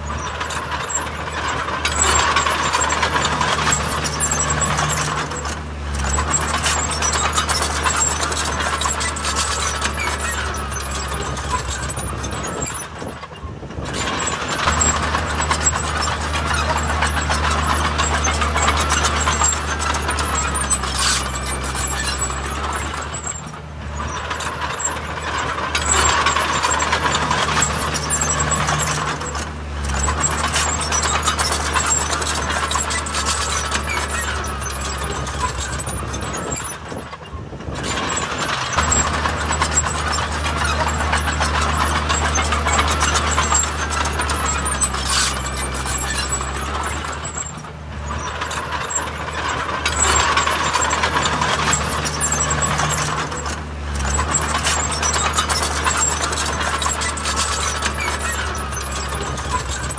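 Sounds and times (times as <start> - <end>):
diesel engine drone: 0.0 - 59.9
heavy machinery noise: 0.0 - 59.9.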